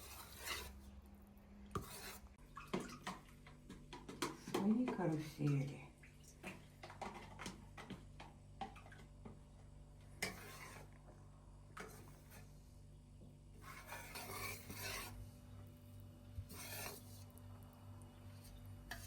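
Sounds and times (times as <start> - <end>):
scraping stirring sound: 0.0 - 5.4, 6.8 - 19.0.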